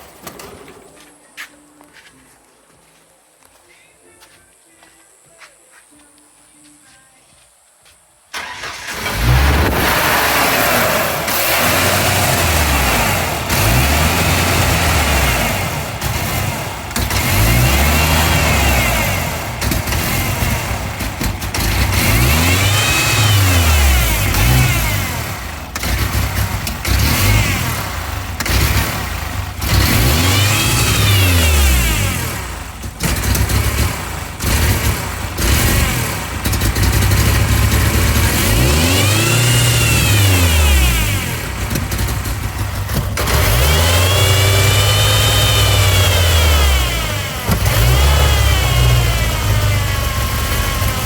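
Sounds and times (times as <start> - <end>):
engine revving and idling: 8.4 - 51.0.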